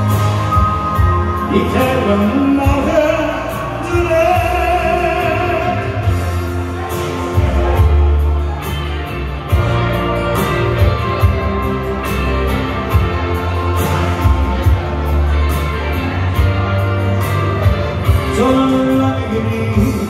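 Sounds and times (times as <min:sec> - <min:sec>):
bass line: 0:00.0 - 0:20.0
pop song: 0:00.0 - 0:20.0.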